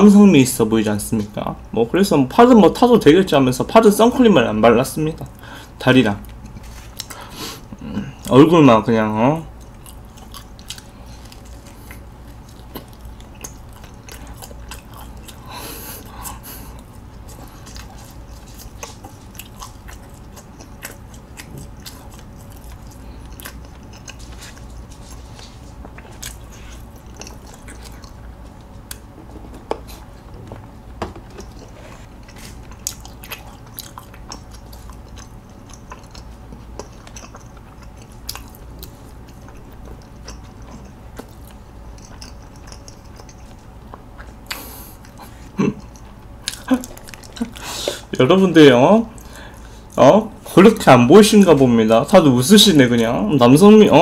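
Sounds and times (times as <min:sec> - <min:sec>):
close chewing with wet mouth sounds: 0:05.1 - 0:08.4, 0:09.4 - 0:51.6.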